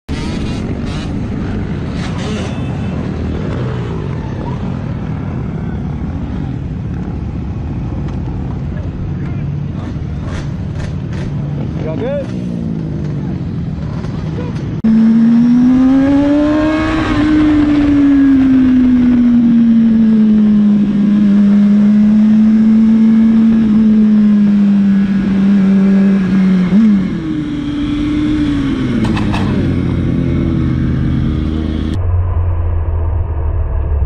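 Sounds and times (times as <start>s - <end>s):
motorcycle engine cruising: 0.1s - 32.0s.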